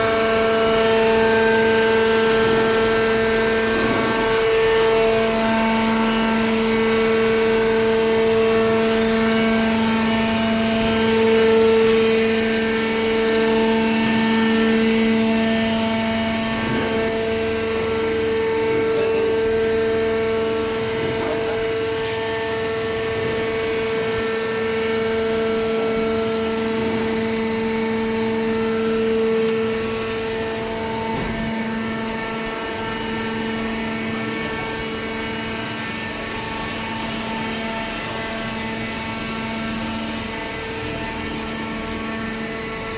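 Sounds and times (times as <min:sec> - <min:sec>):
hydraulic power unit humming: 0:00.0 - 0:42.9.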